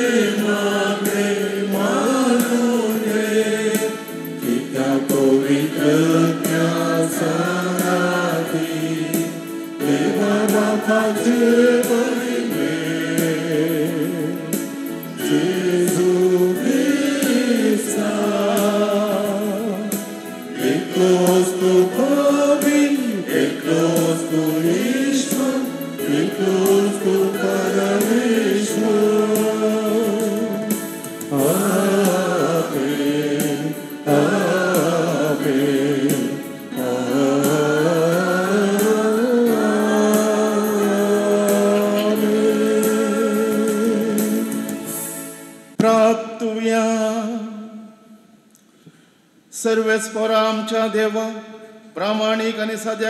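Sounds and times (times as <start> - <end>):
congregation singing a hymn: 0.0 - 46.0.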